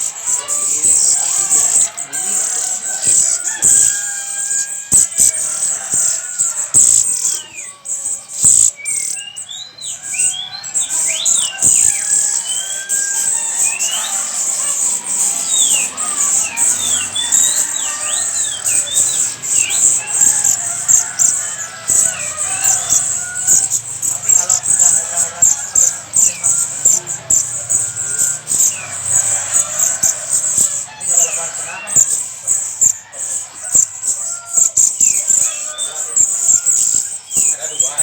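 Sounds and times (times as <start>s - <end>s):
songbirds chirping: 0.0s - 38.0s.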